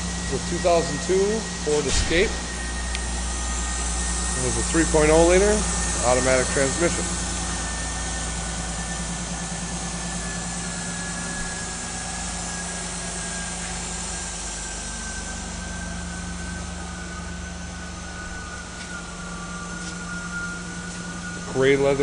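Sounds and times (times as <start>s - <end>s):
car engine idling: 0.0s - 22.0s
thin falling whine: 0.0s - 22.0s.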